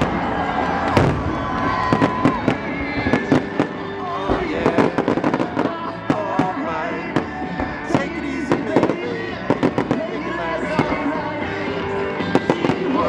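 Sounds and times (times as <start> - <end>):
fireworks bangs and crackling pops: 0.0 - 13.0
music with singing: 0.0 - 13.0.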